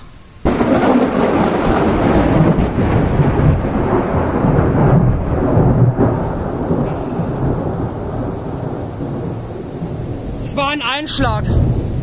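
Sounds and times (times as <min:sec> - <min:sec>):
rain hissing: 0:00.0 - 0:12.0
rolling thunder rumble: 0:00.0 - 0:12.0.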